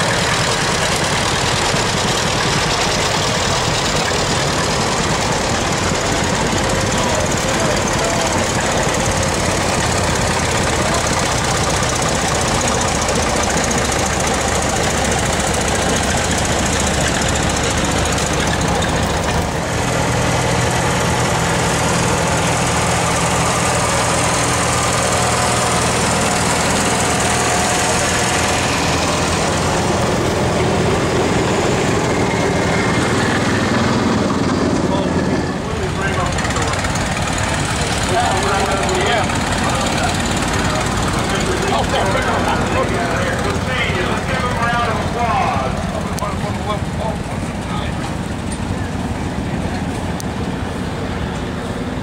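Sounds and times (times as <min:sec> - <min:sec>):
old tractor engines running: 0:00.0 - 0:52.0.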